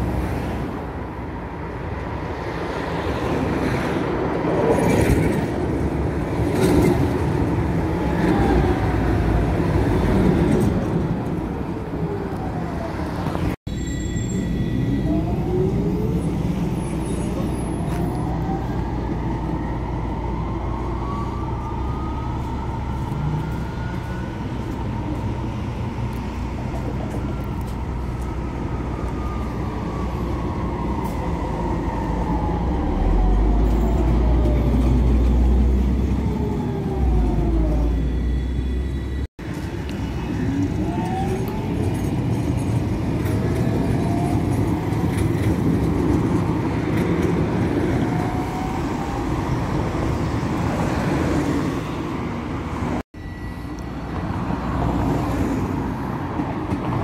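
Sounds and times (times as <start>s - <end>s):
tram electric drive whining: 0.1s - 57.0s.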